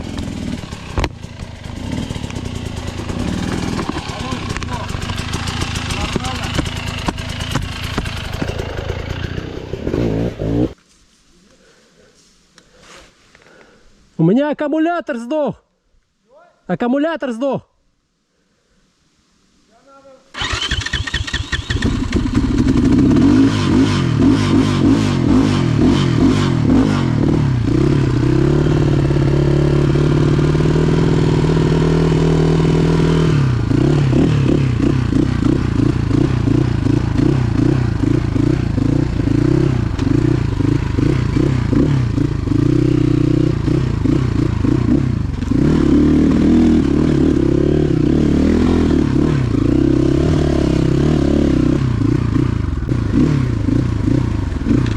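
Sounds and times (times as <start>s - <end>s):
motorcycle engine revving and idling: 0.0s - 10.8s, 20.4s - 54.9s.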